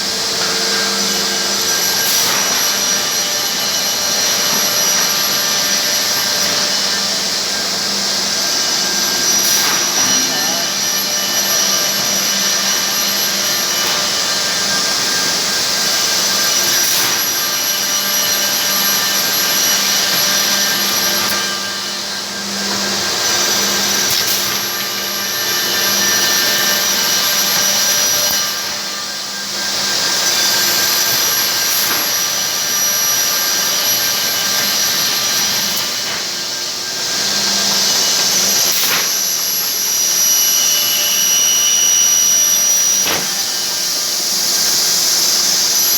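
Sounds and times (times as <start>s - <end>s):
machine hiss and whine: 0.0s - 45.9s.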